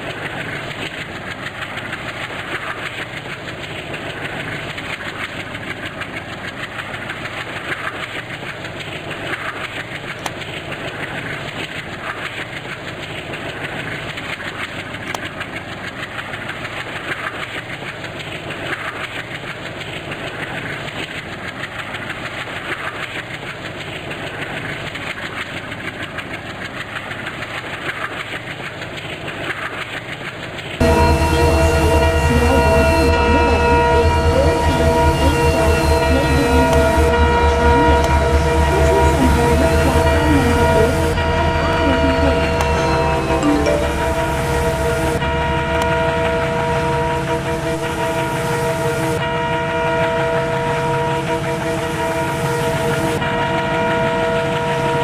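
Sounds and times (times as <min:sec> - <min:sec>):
train running on rails: 0:00.0 - 0:55.0.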